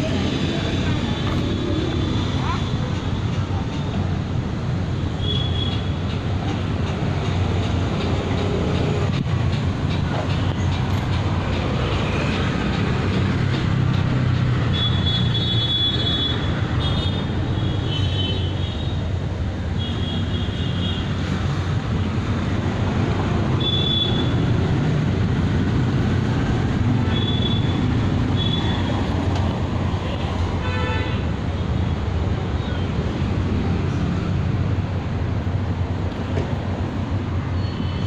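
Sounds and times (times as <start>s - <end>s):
heavy vehicle rumble: 0.0s - 38.0s.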